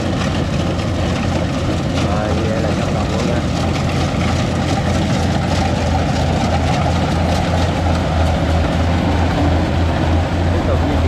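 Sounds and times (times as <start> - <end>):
combine harvester engine hum: 0.0 - 11.0.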